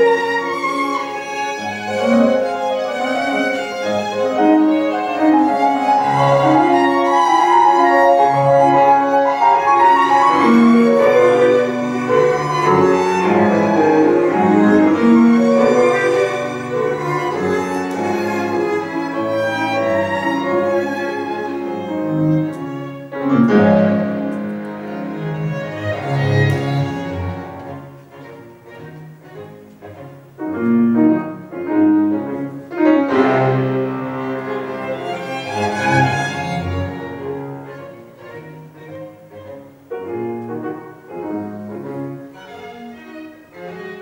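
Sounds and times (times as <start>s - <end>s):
bowed strings: 0.0s - 44.0s
grand piano: 0.0s - 44.0s.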